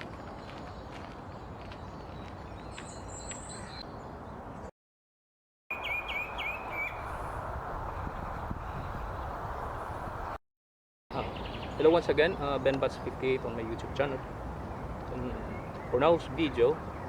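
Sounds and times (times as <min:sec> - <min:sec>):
outdoor background noise: 0:00.0 - 0:04.7, 0:05.7 - 0:10.4, 0:11.1 - 0:17.0
wild birds chirping: 0:00.3 - 0:04.7, 0:05.7 - 0:10.4, 0:11.1 - 0:17.0.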